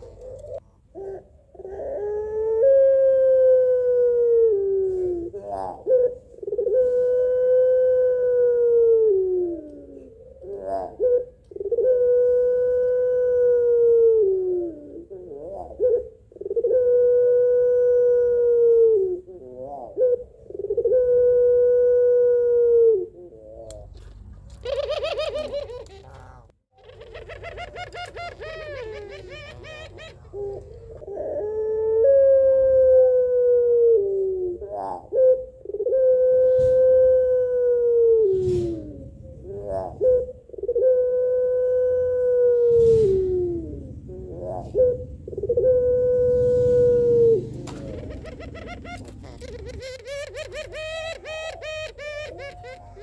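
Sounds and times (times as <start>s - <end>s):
dove cooing: 0.0s - 23.9s, 24.6s - 53.0s
rough rolling dove calls: 0.0s - 53.0s.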